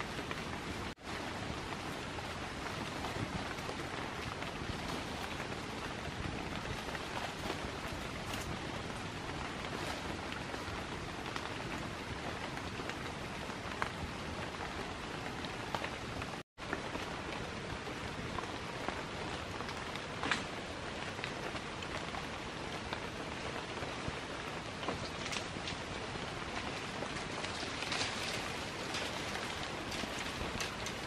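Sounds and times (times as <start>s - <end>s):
close sharp raindrops: 0.0s - 31.0s
rain on forest foliage: 0.0s - 31.0s.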